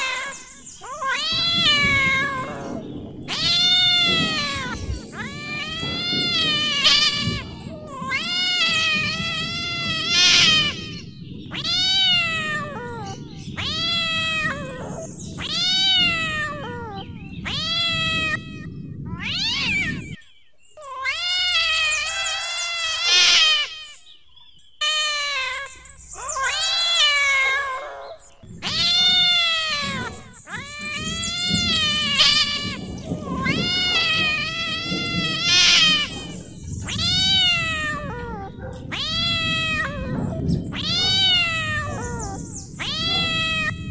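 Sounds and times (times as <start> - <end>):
cat meowing loudly: 0.0 - 20.2, 20.8 - 24.1, 24.8 - 43.9
low background rumble: 0.0 - 20.2, 24.4 - 43.9.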